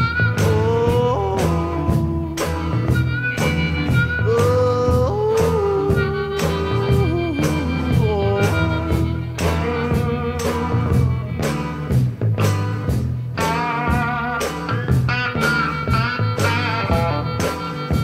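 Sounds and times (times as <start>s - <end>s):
bending lead guitar line: 0.0s - 18.0s
repeating acoustic guitar riff: 0.0s - 18.0s.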